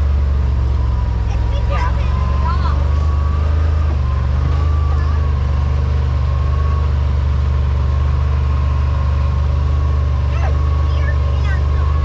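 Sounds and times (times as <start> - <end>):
utility vehicle engine drone: 0.0 - 12.0.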